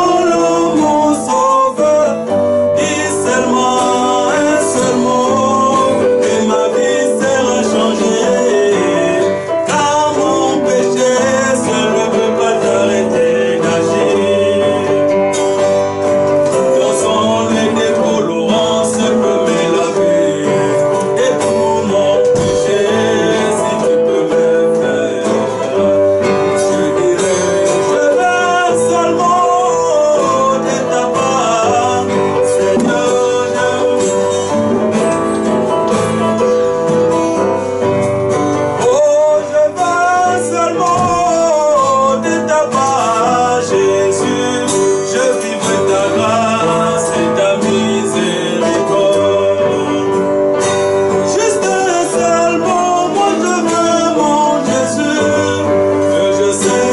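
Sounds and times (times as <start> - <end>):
acoustic guitar: 0.0 - 56.9
man singing: 0.0 - 56.9.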